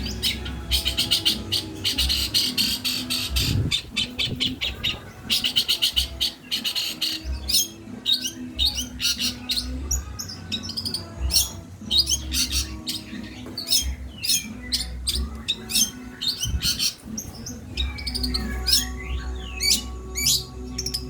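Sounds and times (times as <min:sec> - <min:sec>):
bird singing sharp chirps and trills: 0:00.0 - 0:21.0.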